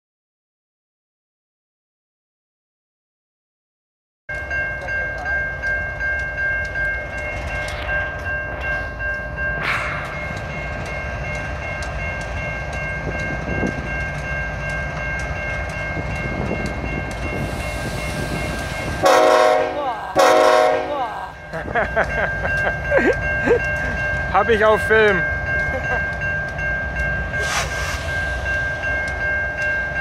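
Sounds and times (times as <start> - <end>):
locomotive engine rumble: 4.3 - 30.0
steady high tones: 4.3 - 30.0.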